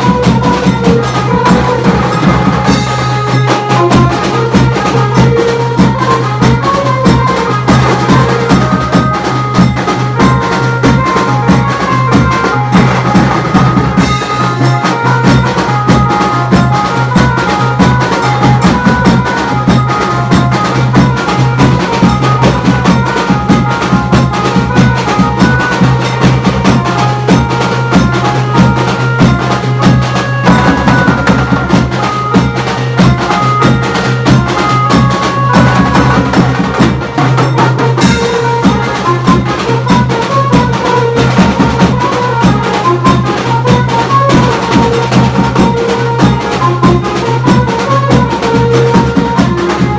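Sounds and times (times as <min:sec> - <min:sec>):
band music: 0:00.0 - 0:49.9
fast drum beats: 0:00.0 - 0:49.9.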